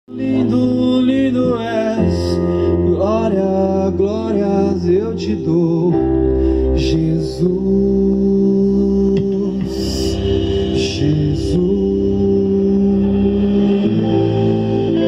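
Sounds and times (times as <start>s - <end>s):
bass: 0.0s - 15.0s
man singing: 0.0s - 15.0s
keyboard chords: 0.1s - 15.0s.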